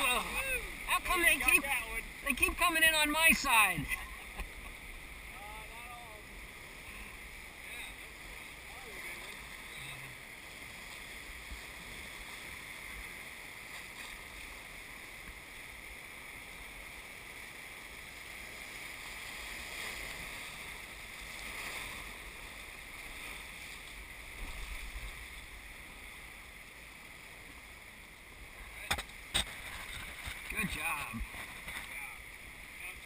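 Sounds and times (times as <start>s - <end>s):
river rapid rushing and churning: 0.0s - 33.0s.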